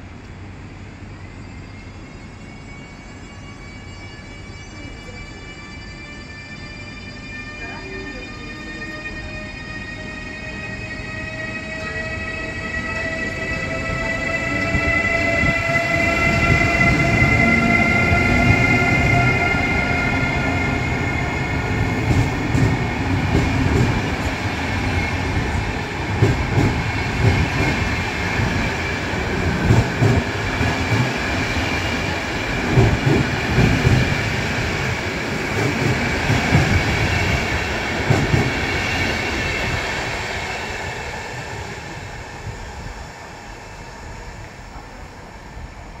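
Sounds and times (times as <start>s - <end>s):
electric locomotive whining: 0.0s - 46.0s
passenger coaches rumbling past: 0.0s - 46.0s.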